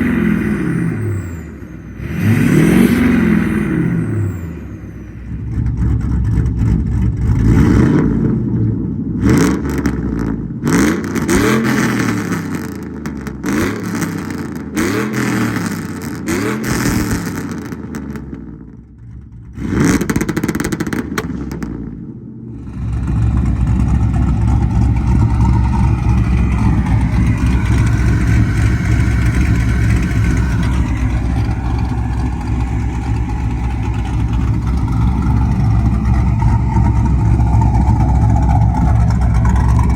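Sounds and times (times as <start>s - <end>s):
truck exhaust revving: 0.0s - 39.9s.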